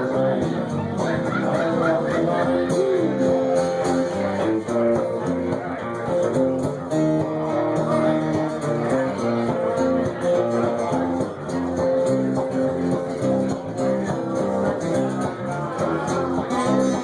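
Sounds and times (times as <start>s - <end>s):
guitar strummed and picked: 0.0s - 17.0s.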